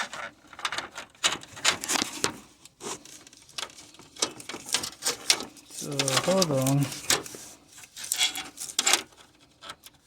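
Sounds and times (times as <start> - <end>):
clicks taps and scraping: 0.0 - 10.0.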